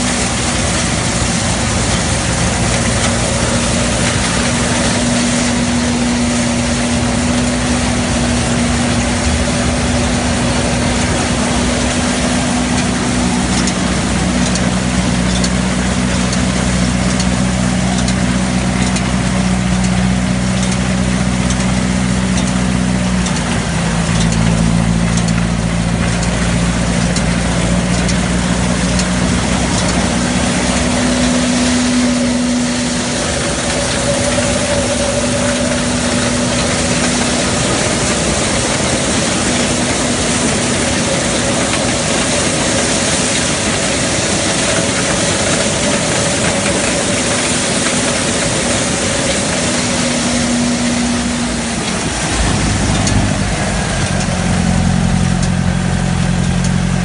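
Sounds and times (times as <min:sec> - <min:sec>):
thresher machine drone: 0:00.0 - 0:57.0.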